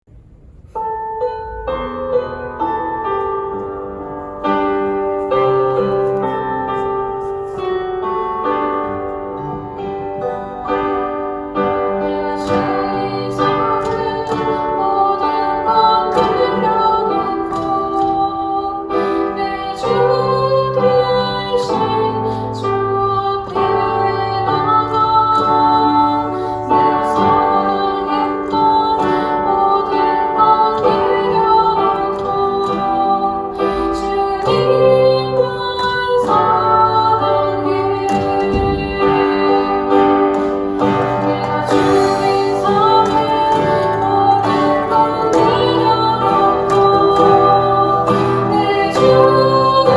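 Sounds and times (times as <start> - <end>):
guitar: 0.1 - 49.9
keyboard: 0.2 - 49.9
woman singing: 3.7 - 49.9.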